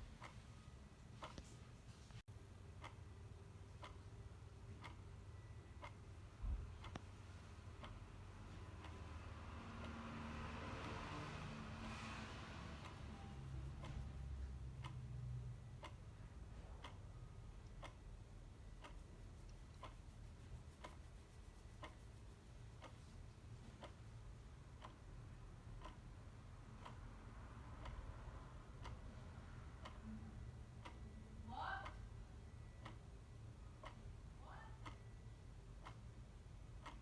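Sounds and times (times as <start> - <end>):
clock ticking faintly: 0.0 - 37.0
low steady rumble: 0.0 - 37.0.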